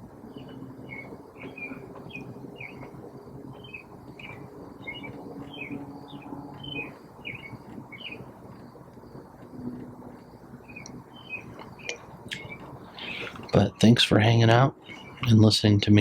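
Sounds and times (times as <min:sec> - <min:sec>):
birds chirping: 0:00.0 - 0:16.0
faint low hum: 0:00.0 - 0:16.0.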